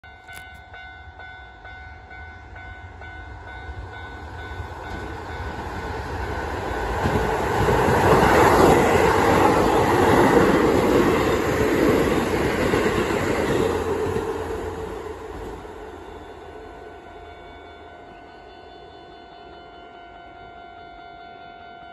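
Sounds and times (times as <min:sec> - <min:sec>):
train passing: 0:00.0 - 0:21.9.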